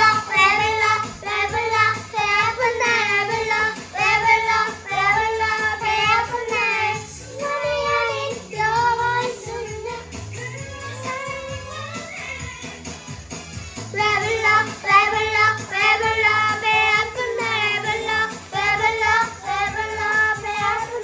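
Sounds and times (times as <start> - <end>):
children singing together: 0.0 - 10.0, 14.0 - 21.0
backing music with low beat: 0.0 - 21.0.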